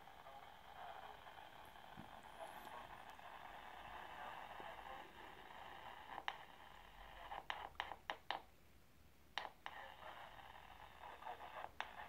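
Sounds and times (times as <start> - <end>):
radio static hiss: 0.0 - 8.5, 9.3 - 12.0.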